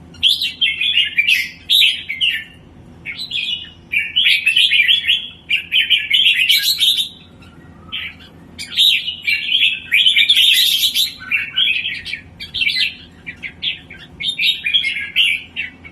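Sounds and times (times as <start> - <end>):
songbird chirping and trilling: 0.0 - 15.9.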